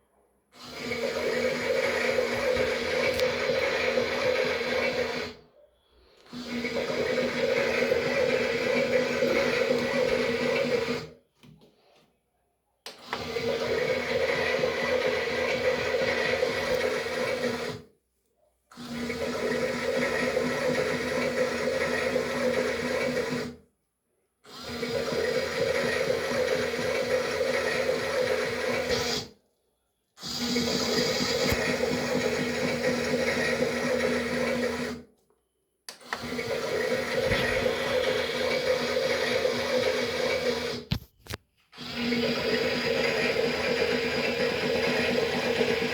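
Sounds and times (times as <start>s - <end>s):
toy washing machine motor humming: 0.6s - 5.4s, 6.3s - 11.2s, 13.0s - 17.8s, 18.7s - 23.6s, 24.5s - 29.4s, 30.2s - 35.1s, 36.1s - 41.1s, 41.7s - 45.9s.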